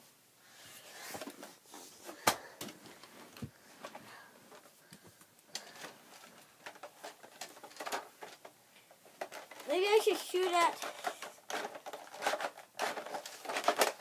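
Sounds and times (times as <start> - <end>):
handling rustle: 0.8 - 14.0.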